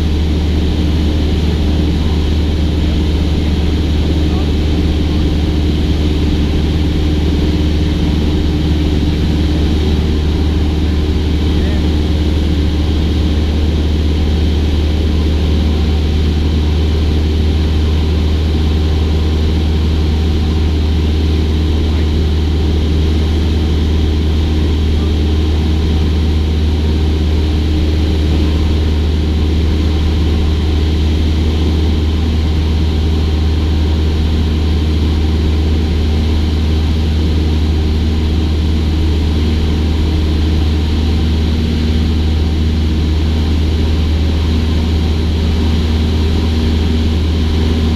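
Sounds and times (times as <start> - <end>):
propeller plane engine drone: 0.0 - 47.9.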